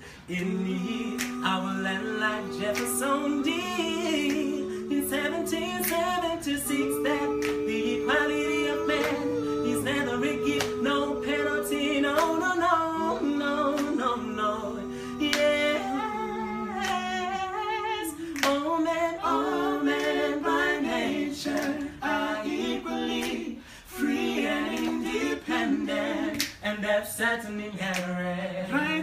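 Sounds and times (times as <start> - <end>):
vocal group singing harmony: 0.0 - 29.0.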